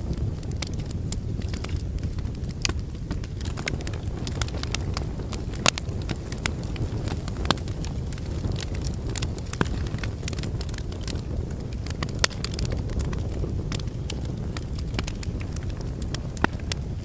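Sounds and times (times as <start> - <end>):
fire crackling and popping: 0.0 - 17.0
logs burning in fireplace: 0.0 - 17.0.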